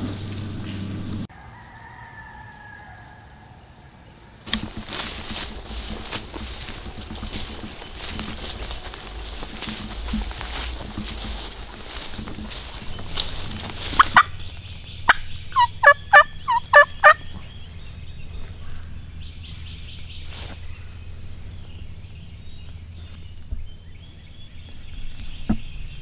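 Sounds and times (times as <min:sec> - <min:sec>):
wild turkey gobbling: 0:01.4 - 0:25.6
footsteps rustling through brush: 0:04.4 - 0:26.0.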